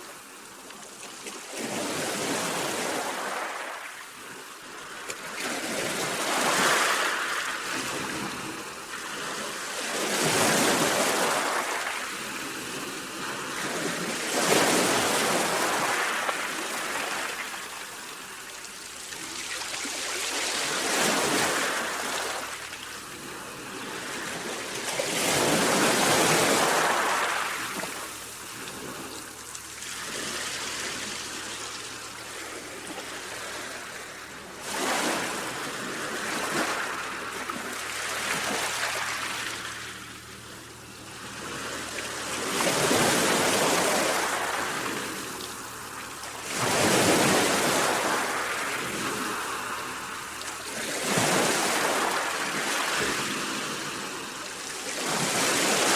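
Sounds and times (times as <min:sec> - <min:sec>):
sea waves surging: 0:01.6 - 0:55.9.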